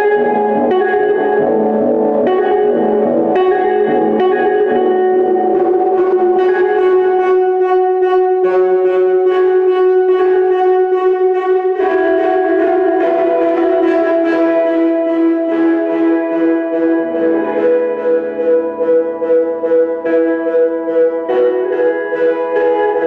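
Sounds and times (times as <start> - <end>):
electric guitar through amplifier: 0.0 - 23.0.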